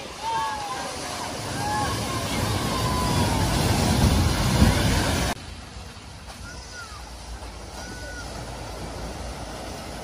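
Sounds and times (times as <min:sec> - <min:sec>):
car splashing through water: 0:00.0 - 0:10.0
low rumble of car wading: 0:00.0 - 0:10.0.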